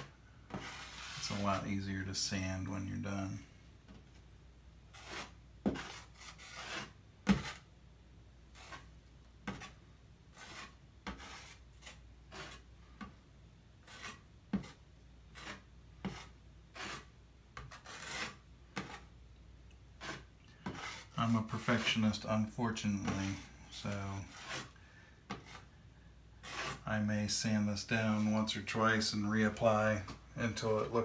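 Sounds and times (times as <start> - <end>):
drywall knife scraping paste: 0.0 - 1.7, 4.9 - 7.7, 8.5 - 13.1, 13.8 - 19.2, 20.0 - 25.8, 26.4 - 31.0.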